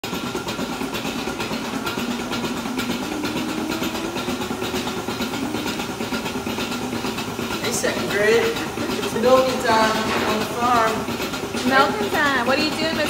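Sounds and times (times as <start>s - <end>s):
milking machinery hum: 0.0s - 13.0s
regular mechanical ticking: 0.0s - 13.0s.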